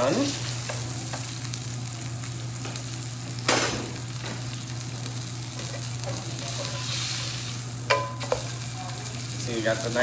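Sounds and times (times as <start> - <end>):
fish fillet sizzling in skillet: 0.0 - 10.0.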